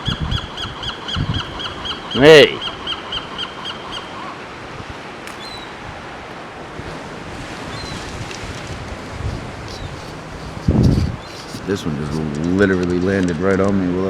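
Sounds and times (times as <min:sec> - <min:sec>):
wind noise on microphone: 0:00.0 - 0:02.5, 0:04.6 - 0:13.8
ocean surf: 0:00.0 - 0:14.0.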